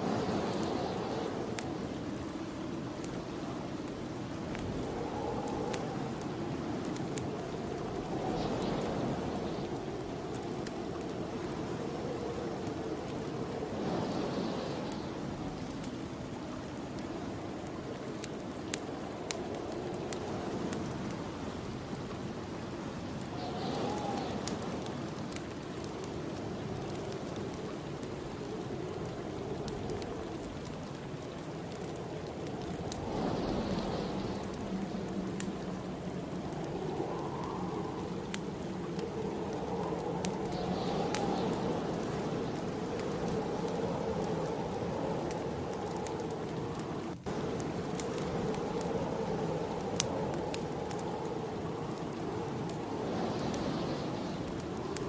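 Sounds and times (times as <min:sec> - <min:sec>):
fire popping: 0:00.0 - 0:55.0
snowstorm wind whooshing: 0:00.0 - 0:55.0
wood fire crackling: 0:00.0 - 0:55.0.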